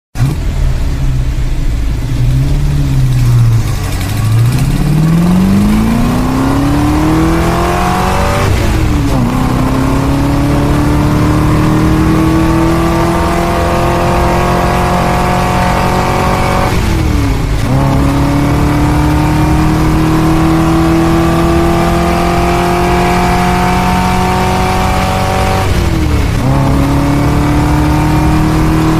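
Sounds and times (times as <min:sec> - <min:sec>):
car engine accelerating: 0:00.2 - 0:28.9.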